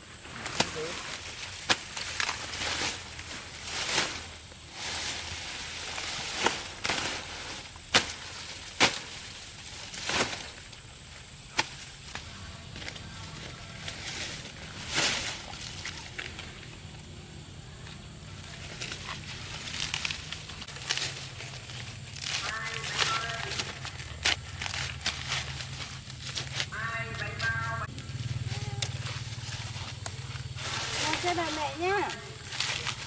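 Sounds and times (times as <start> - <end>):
faint outdoor rustling: 0.0 - 33.0.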